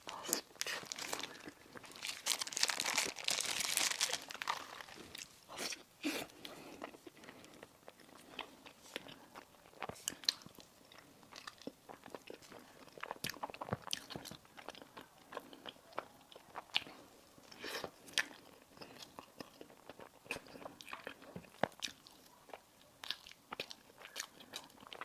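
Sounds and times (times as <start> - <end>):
crunching while chewing: 0.0 - 25.0.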